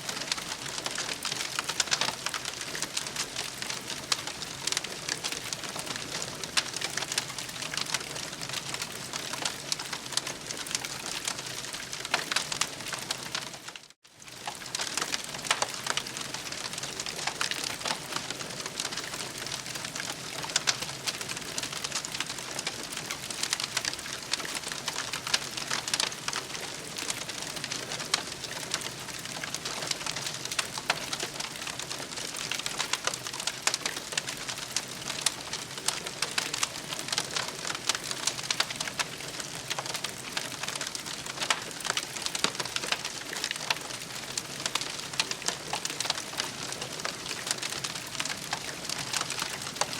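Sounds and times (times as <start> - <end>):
campfire crackling: 0.0 - 49.9.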